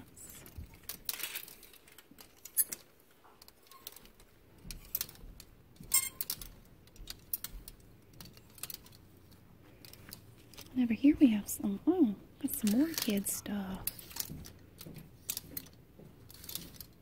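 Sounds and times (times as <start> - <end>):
plastic hangers clicking on a rack: 0.0 - 17.0.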